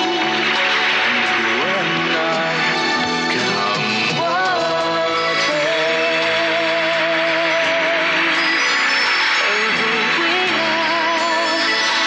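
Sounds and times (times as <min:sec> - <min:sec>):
live pop ballad: 0:00.0 - 0:12.0.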